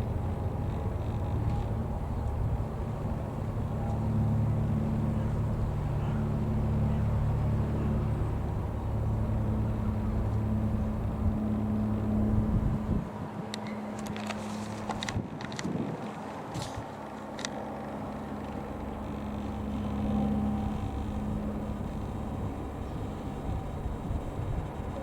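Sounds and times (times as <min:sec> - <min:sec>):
propeller plane droning overhead: 0:00.0 - 0:25.0.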